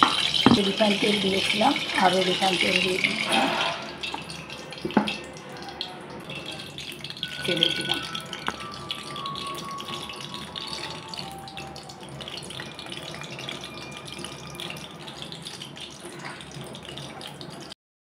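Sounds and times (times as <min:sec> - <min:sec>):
food sizzling in hot oil: 0:00.0 - 0:17.8.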